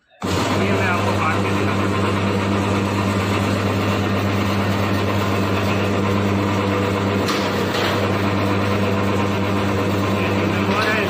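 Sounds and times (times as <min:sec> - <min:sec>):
wire stripping machine humming: 0:00.2 - 0:11.0.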